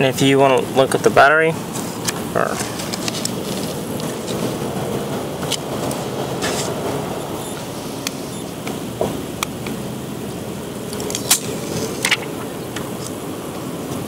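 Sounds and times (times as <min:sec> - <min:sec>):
distant traffic: 0:00.0 - 0:14.0
air moving over microphone: 0:01.5 - 0:14.0.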